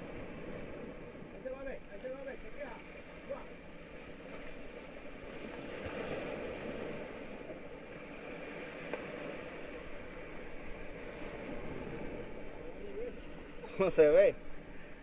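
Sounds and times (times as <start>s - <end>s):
sea waves breaking on rocks: 0.0s - 15.0s.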